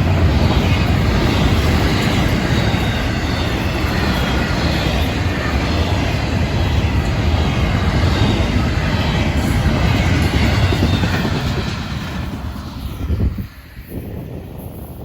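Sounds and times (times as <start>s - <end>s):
steel wheels clattering on rails: 0.0s - 13.4s
freight train rolling past: 0.0s - 15.0s.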